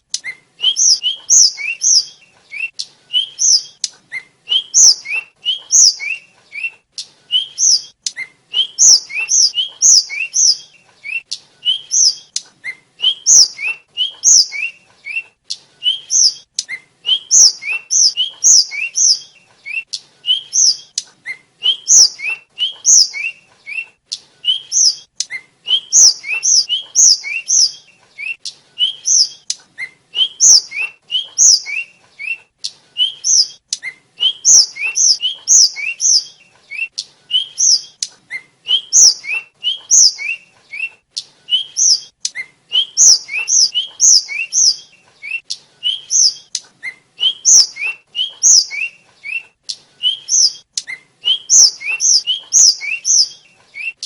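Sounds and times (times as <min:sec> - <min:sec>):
bird singing whistled notes: 0:00.0 - 0:54.0.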